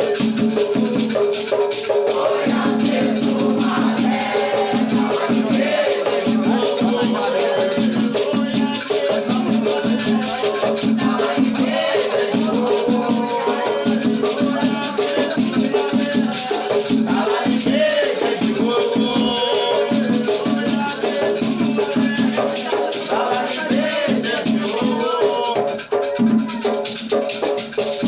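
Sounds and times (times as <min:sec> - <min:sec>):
voices singing: 0:00.0 - 0:27.0
drum beating fast rhythm: 0:00.0 - 0:28.0
shaken rattle: 0:00.0 - 0:28.0.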